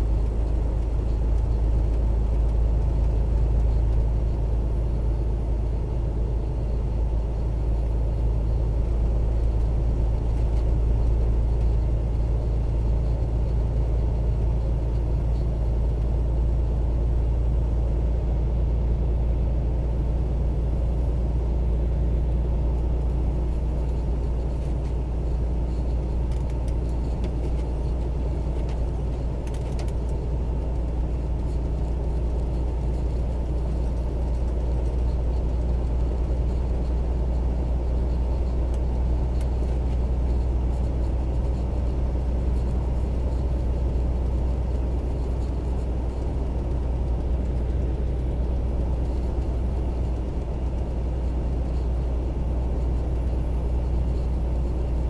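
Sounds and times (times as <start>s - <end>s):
truck engine and tyres drone: 0.0s - 55.0s.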